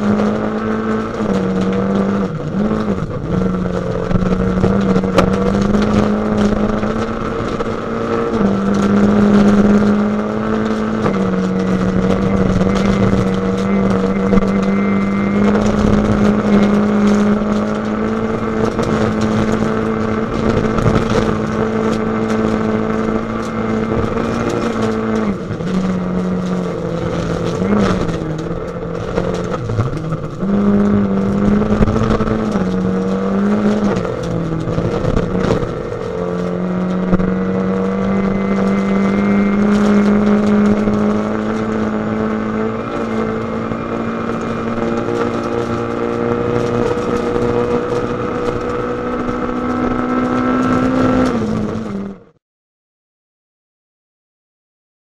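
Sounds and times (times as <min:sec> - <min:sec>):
rally car engine revving: 0:00.0 - 0:52.4.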